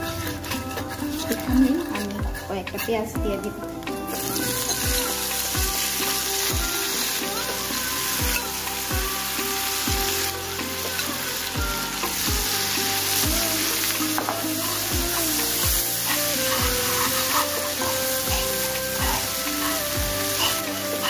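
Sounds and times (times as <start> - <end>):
onions sizzling in oil: 0.0 - 2.9, 3.7 - 21.0
spatula stirring in pan: 0.0 - 3.1, 3.8 - 21.0.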